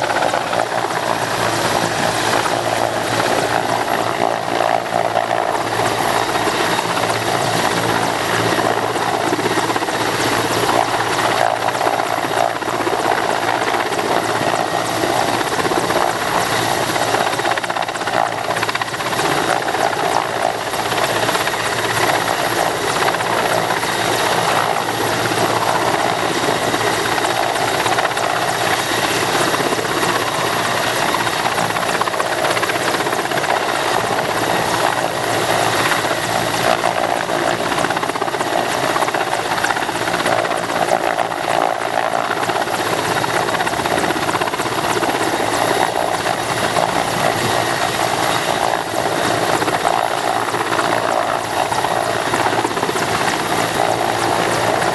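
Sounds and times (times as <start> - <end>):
helicopter hovering: 0.0 - 54.9.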